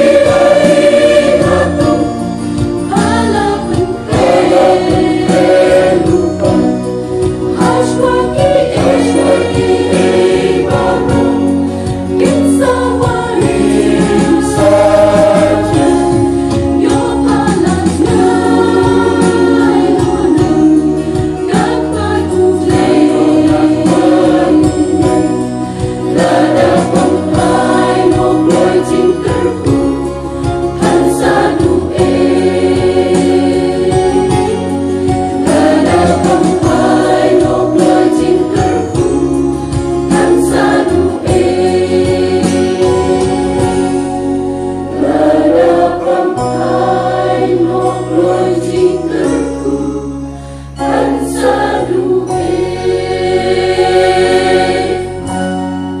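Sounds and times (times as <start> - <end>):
mixed choir singing in harmony: 0.0 - 56.0.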